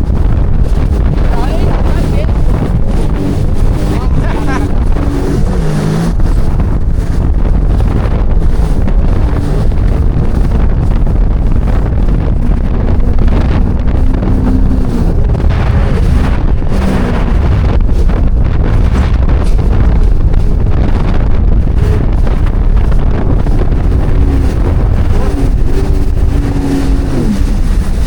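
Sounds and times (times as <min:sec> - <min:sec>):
jet ski engine: 0:00.0 - 0:28.0
wind buffeting microphone: 0:00.0 - 0:28.0.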